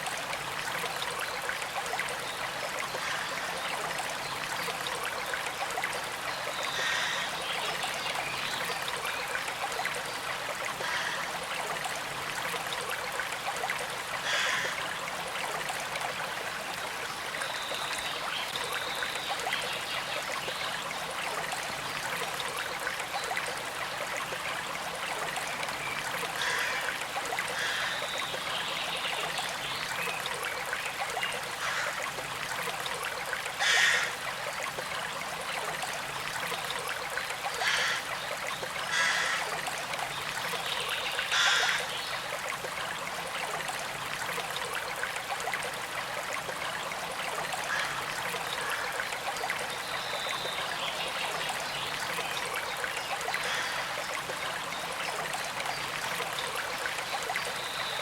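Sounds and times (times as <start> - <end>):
creek water gurgling over stones: 0.0 - 58.0.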